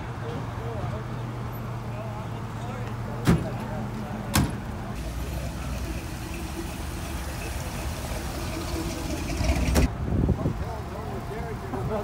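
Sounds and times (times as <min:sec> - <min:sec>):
vehicle engine idling: 0:00.1 - 0:09.9.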